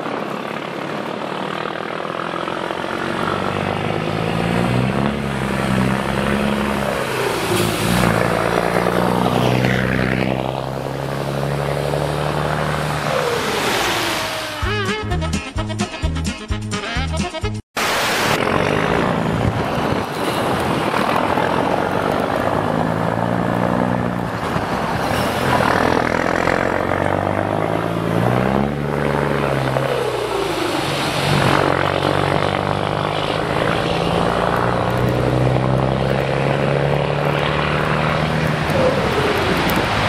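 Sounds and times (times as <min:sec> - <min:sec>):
truck diesel engine pulling hard: 0:00.0 - 0:16.2, 0:17.8 - 0:40.0.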